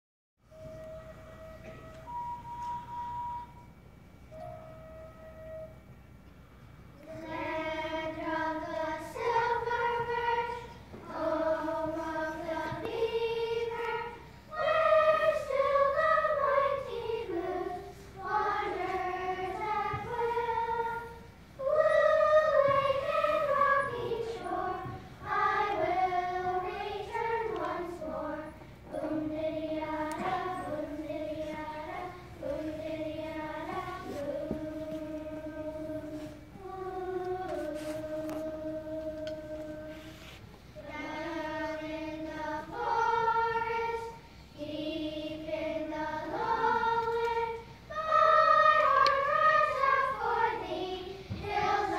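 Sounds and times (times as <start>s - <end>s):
children singing together: 7.0s - 51.9s.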